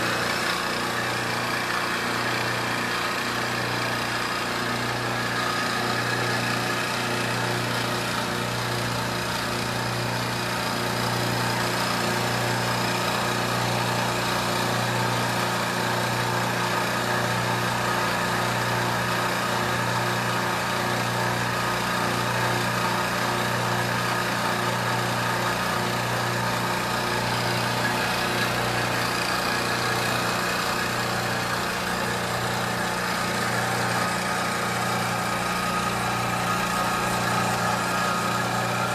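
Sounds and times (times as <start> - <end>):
milling machine running: 0.0 - 38.9.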